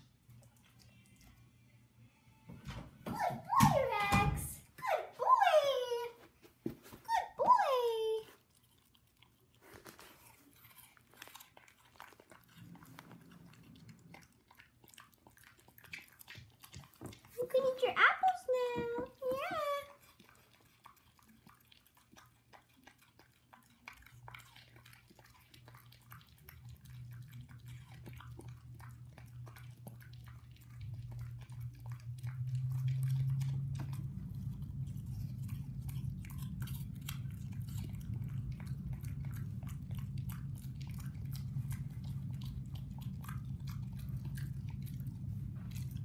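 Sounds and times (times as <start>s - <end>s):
dog chewing and crunching apple: 0.0s - 1.7s, 2.7s - 46.0s
low steady hum: 0.0s - 46.0s.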